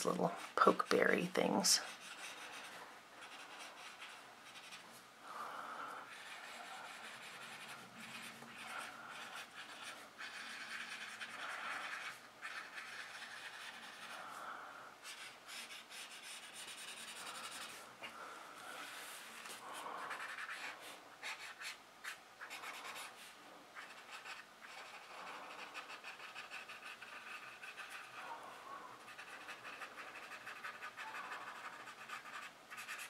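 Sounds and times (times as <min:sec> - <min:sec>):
drawing tip scratching on paper: 0:01.8 - 0:04.8, 0:06.0 - 0:14.2, 0:15.0 - 0:17.8, 0:19.4 - 0:23.2, 0:23.8 - 0:28.4, 0:29.0 - 0:33.0.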